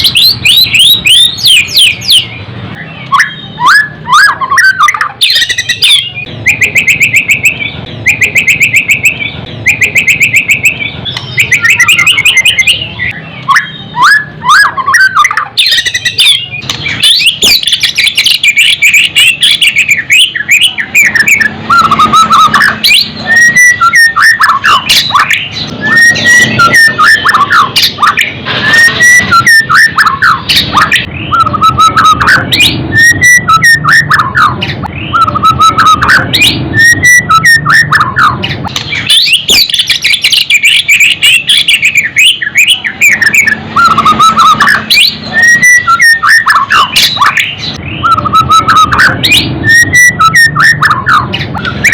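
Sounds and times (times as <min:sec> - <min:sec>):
songbird singing loudly: 0:00.0 - 0:51.9.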